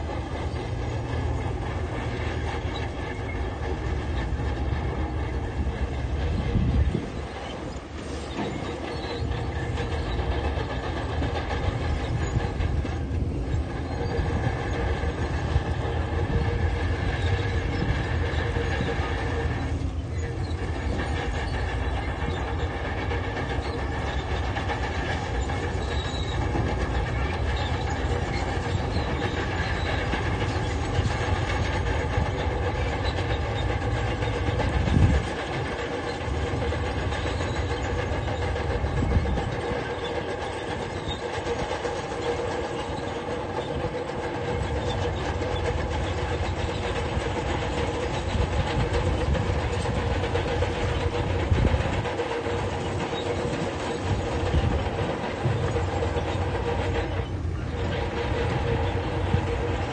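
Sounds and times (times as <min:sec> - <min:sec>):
diesel engine running: 0:00.0 - 0:59.9
steel tracks clattering: 0:00.0 - 0:59.9.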